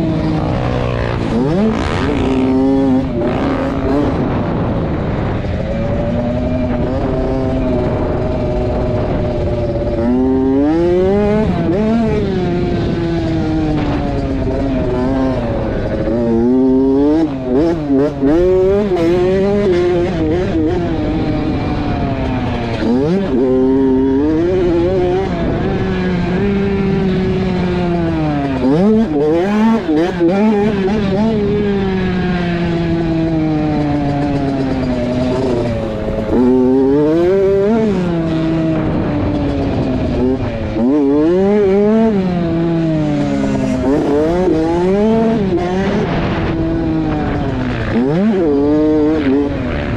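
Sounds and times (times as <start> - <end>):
dirt bike engine revving: 0.0 - 49.9
wind noise: 0.0 - 49.9.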